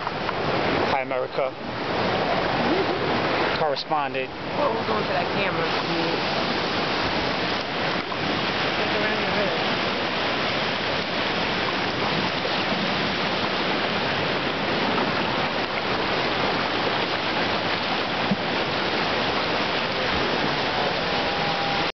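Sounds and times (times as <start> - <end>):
river rushing over stones: 0.0 - 21.9.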